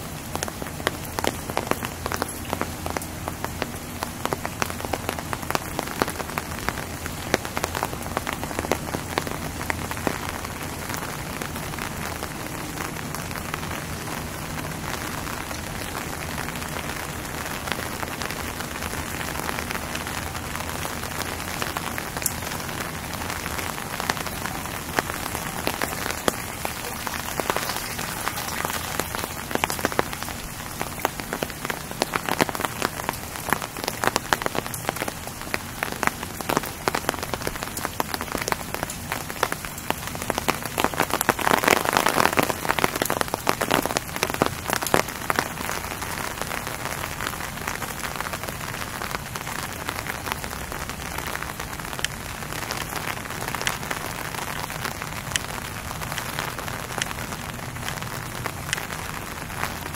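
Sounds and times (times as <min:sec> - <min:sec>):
raindrops ticking close by: 0:00.0 - 0:59.9
steady rain: 0:00.0 - 0:59.9.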